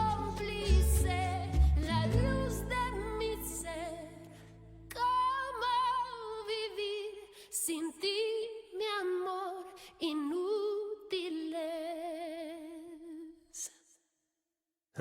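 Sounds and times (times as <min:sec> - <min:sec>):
woman singing with vibrato: 0:00.0 - 0:13.7.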